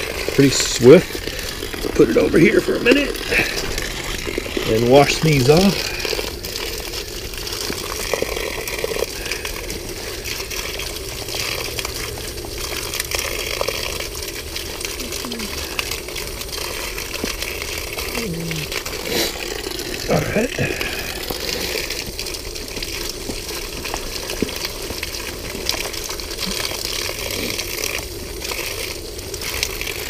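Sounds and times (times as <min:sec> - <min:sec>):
hose spraying water: 0:00.0 - 0:30.0.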